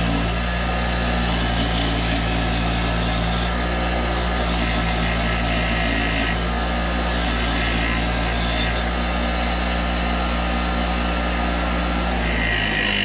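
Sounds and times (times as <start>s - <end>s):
wire wheel motor hum: 0.0s - 13.0s.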